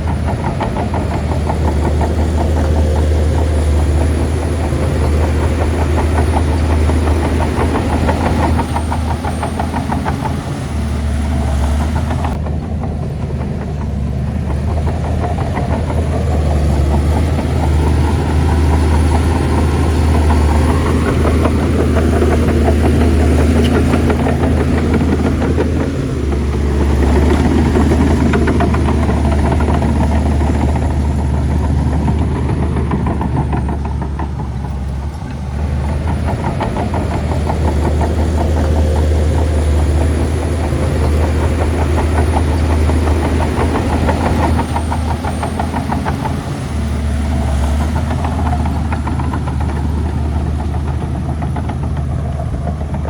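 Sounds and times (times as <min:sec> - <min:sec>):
bulldozer diesel engine under load: 0:00.0 - 0:53.0.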